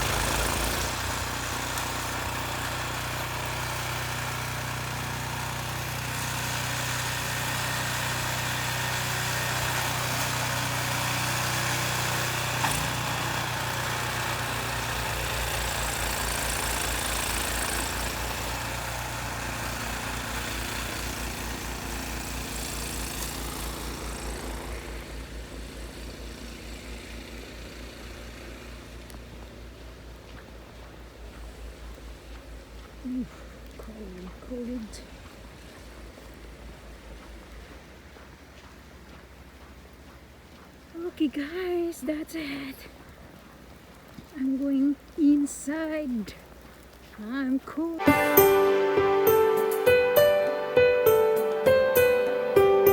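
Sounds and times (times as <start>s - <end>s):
engine running: 0.0s - 45.2s, 45.9s - 52.9s.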